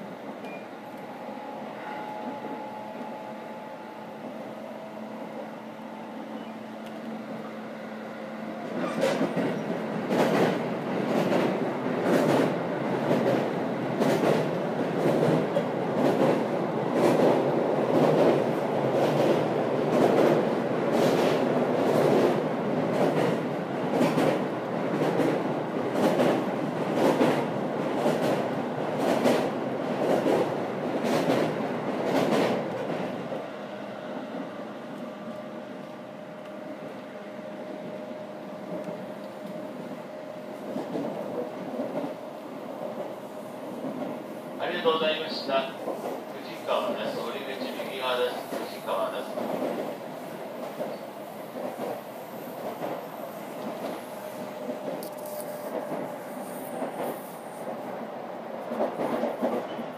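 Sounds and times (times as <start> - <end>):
electric train rumbling over bridge: 0.0 - 59.9.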